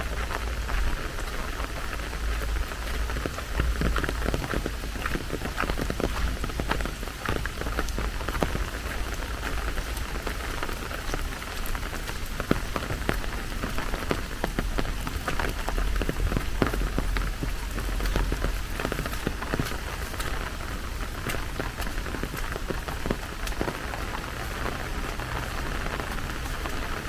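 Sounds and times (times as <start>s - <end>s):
rain hiss: 0.0s - 27.0s
raindrops ticking: 0.0s - 27.0s.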